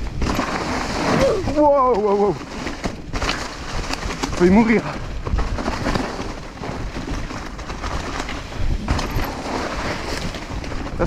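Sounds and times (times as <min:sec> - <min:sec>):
bike rattling and knocking: 0:00.0 - 0:11.0
tyres rolling through dry leaves: 0:00.0 - 0:11.0
wind on microphone: 0:00.0 - 0:11.0.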